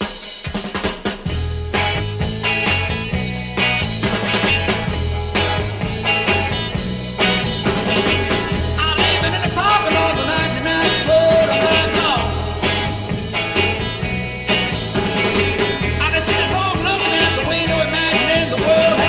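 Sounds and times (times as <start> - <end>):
garage rock band playing: 0.0 - 19.0.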